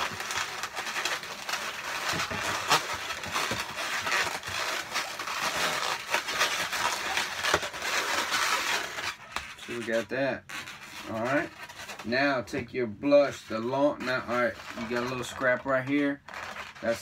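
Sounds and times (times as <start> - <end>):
balloons rubbing and squeaking: 0.0 - 17.0.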